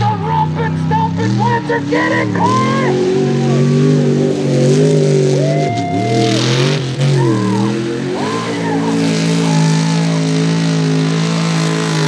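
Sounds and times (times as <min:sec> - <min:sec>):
truck engine revving hard: 0:00.0 - 0:12.0
tyres spraying mud: 0:00.0 - 0:12.0.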